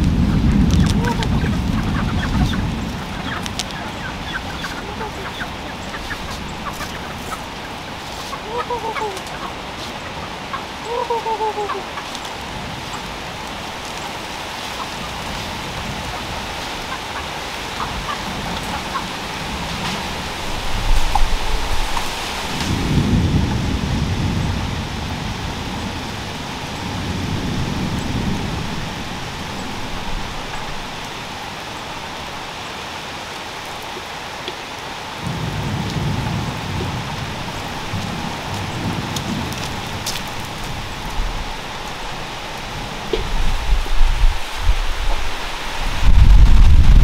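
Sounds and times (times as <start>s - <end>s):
low thunder rumbling: 0.0s - 32.4s, 35.2s - 47.0s
steady rain falling: 0.0s - 47.0s.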